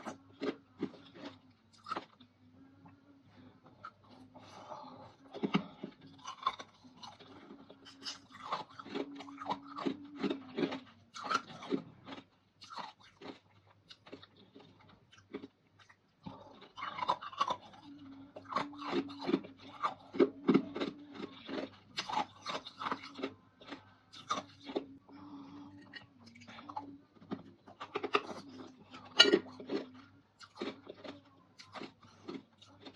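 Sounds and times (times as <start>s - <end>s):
crunchy chewing: 0.0s - 2.3s, 3.7s - 32.9s.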